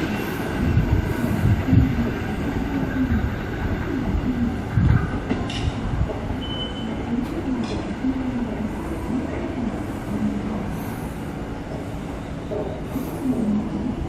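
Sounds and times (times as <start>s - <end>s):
electric train rumbling on track: 0.0s - 14.0s.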